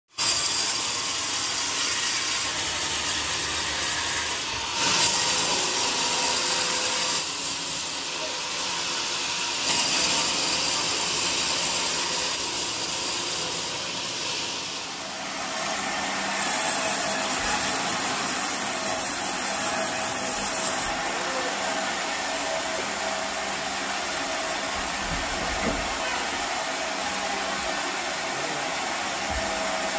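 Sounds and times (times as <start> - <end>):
band saw cutting log: 0.1 - 29.9.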